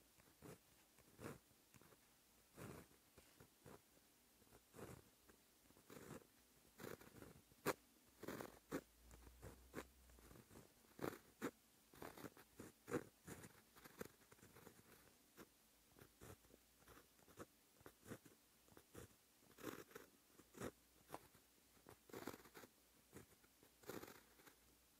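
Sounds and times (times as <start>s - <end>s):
pen scratching on paper: 0.0s - 5.1s, 5.7s - 24.7s.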